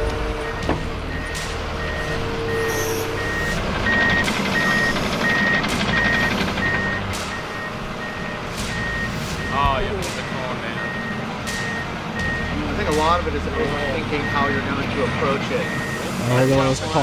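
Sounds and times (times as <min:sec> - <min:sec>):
diesel engines running: 0:00.0 - 0:17.0
excavator travel alarm beeping: 0:00.0 - 0:17.0.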